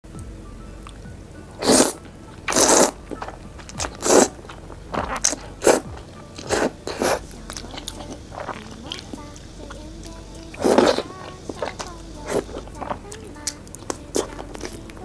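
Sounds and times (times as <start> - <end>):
loud bites and chewing: 0.8 - 15.0.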